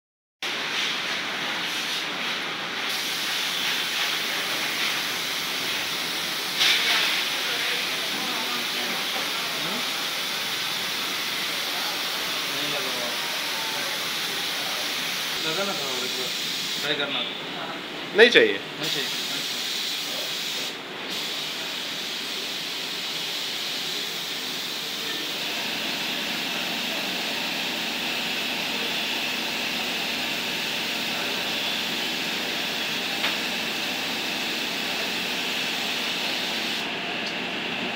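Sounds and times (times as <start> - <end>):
spray gun hissing: 2.8 - 16.8, 18.8 - 36.9.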